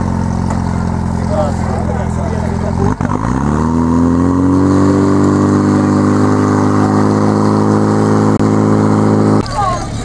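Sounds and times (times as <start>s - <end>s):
fire pump engine running: 0.0s - 3.2s, 4.4s - 10.0s.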